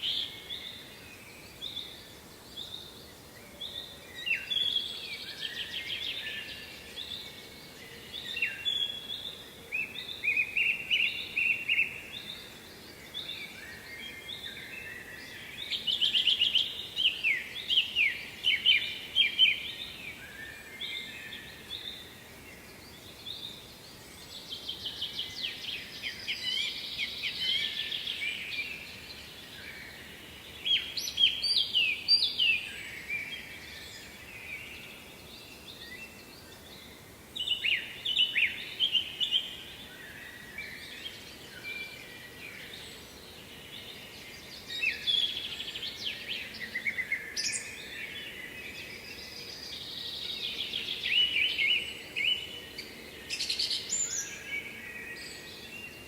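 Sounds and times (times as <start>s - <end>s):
faint background noise: 0.0s - 56.0s.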